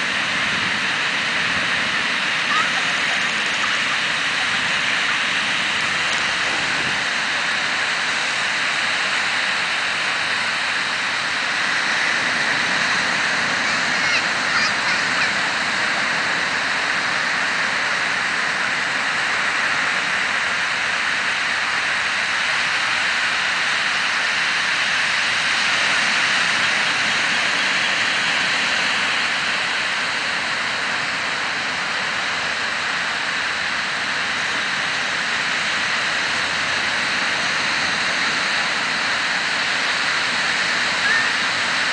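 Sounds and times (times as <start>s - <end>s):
ocean surf washing on beach: 0.0s - 41.9s.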